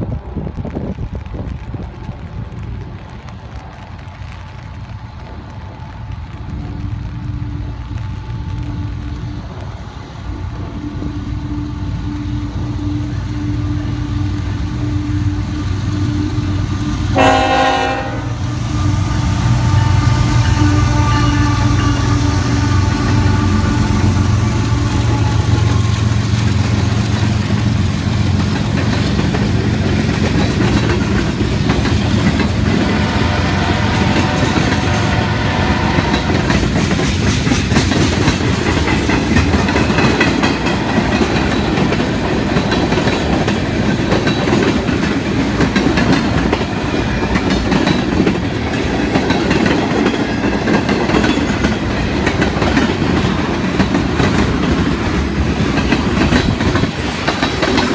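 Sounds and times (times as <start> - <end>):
diesel locomotives running: 0.0 - 57.9
train wheels clattering on rails: 0.6 - 57.9.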